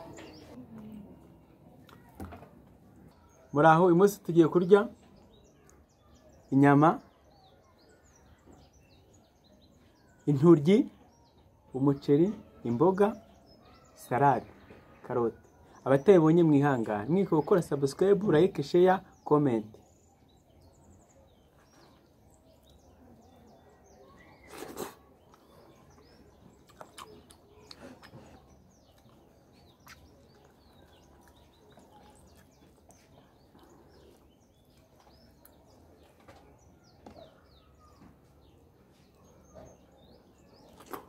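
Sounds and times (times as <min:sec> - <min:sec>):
faint small birds chirping: 0:00.0 - 0:41.0.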